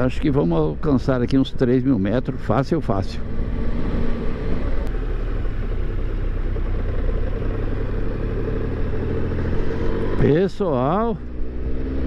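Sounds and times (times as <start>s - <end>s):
wind and road noise: 0.0s - 12.0s
motorcycle engine running: 2.2s - 12.0s.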